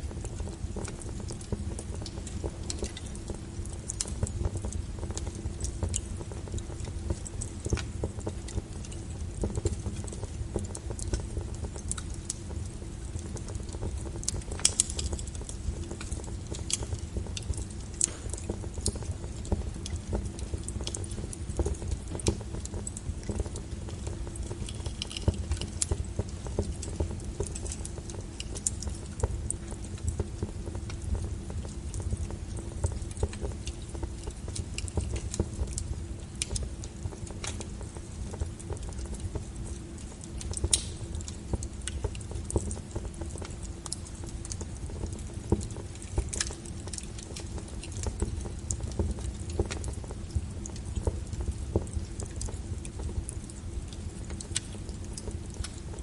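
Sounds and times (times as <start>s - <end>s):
fire low rumble: 0.0s - 56.0s
wood fire crackling: 0.0s - 56.0s.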